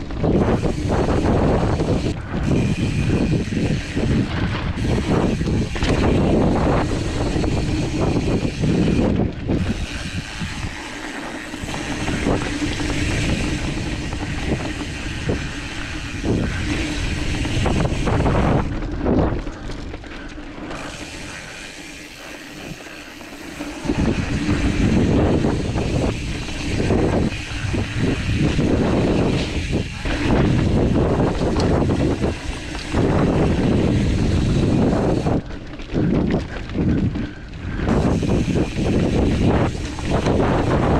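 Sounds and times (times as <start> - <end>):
bike rattling over bumps: 0.0 - 40.9
bike tyres rolling over dirt: 0.0 - 40.9
wind noise on microphone: 0.0 - 40.9.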